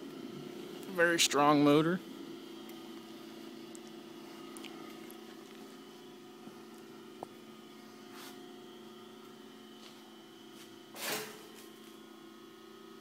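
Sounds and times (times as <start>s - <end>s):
mixer motor humming: 0.0s - 13.0s.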